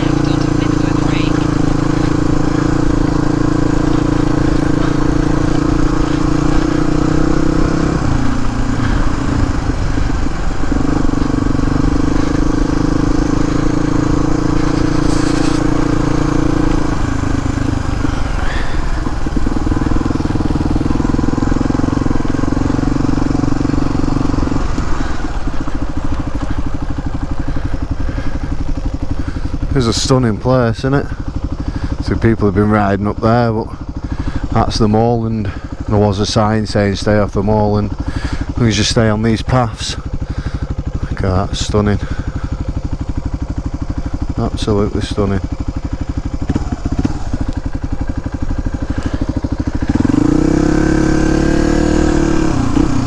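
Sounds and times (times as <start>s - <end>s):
motorcycle engine: 0.0s - 53.0s.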